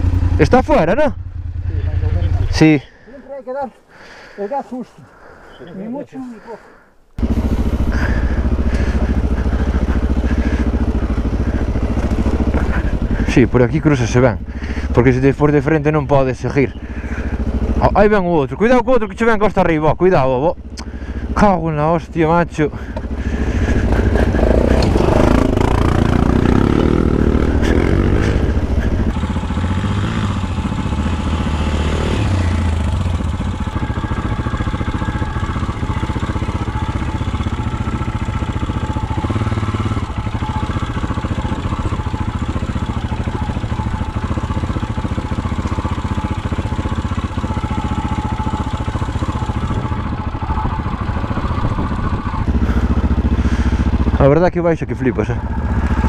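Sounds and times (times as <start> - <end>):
engine clatter: 0.0 - 2.8, 7.2 - 56.0
motorcycle engine running: 0.0 - 4.6, 6.4 - 56.0.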